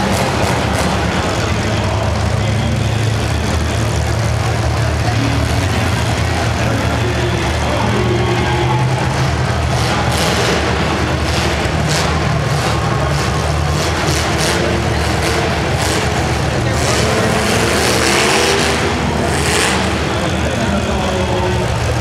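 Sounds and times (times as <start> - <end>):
car engines idling: 0.0 - 22.0.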